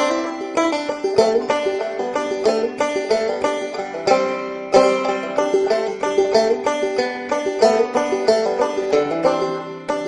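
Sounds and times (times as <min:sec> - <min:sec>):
plucked string tune: 0:00.0 - 0:10.0.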